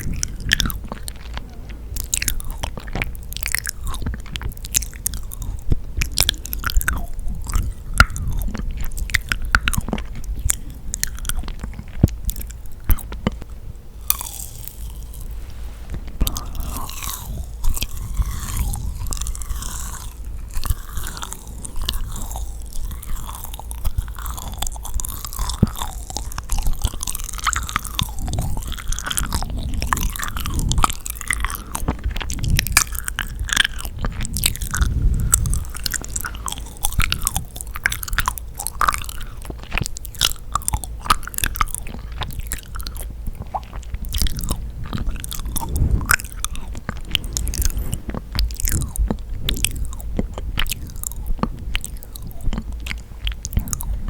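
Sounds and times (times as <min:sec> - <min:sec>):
sticky chewing and crunching: 0:00.0 - 0:54.0.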